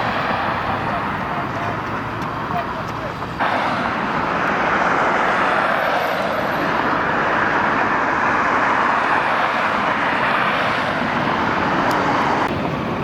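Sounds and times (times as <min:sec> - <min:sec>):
aircraft passing roar: 0:00.0 - 0:13.0.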